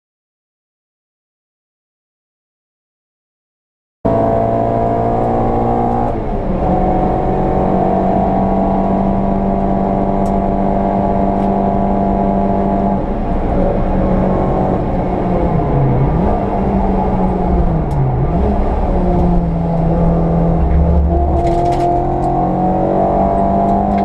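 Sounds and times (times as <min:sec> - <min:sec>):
car engine running hard: 0:04.1 - 0:24.0.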